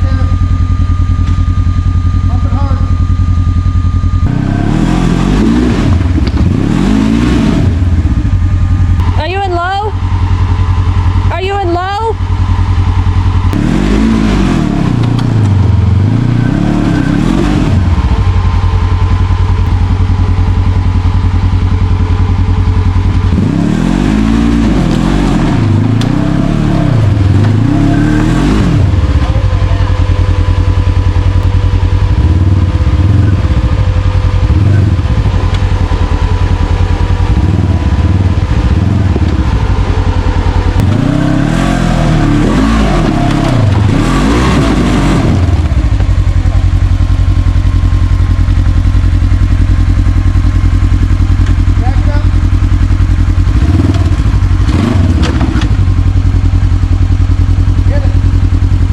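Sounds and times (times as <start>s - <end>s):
off-road vehicle engine revving: 0.0s - 58.9s.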